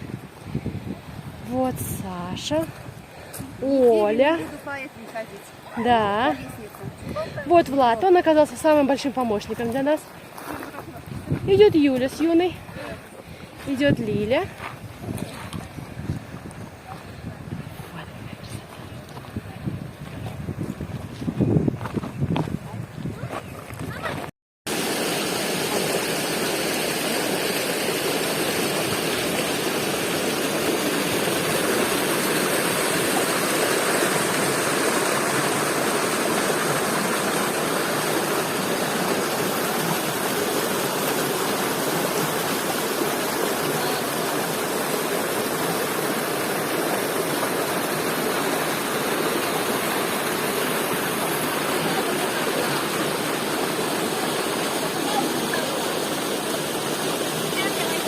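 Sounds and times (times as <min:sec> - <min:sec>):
stream rushing over rocks: 0:00.0 - 0:17.5, 0:24.2 - 0:58.0.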